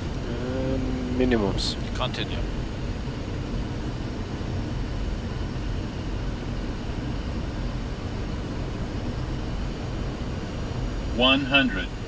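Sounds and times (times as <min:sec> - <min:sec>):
airplane cockpit airflow and engines: 0:00.0 - 0:12.0.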